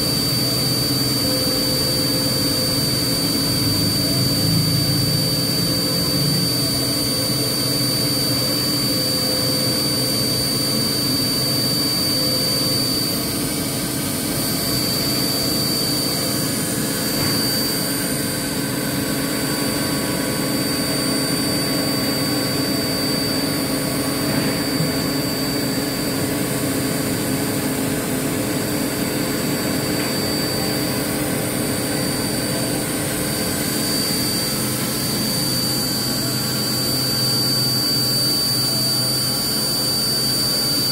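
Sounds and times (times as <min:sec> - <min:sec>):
high-pitched spindle whine: 0:00.0 - 0:40.9
machine running hum: 0:00.0 - 0:40.9.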